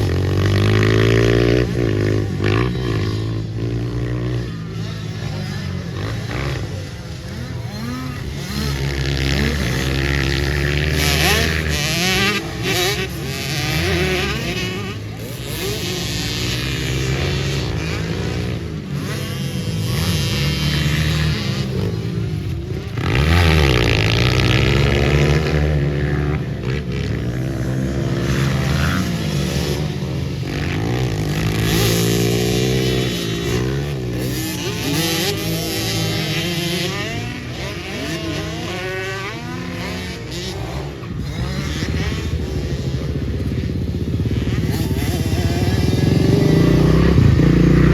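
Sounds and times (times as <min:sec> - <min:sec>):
motorbike engines revving: 0:00.0 - 0:47.9.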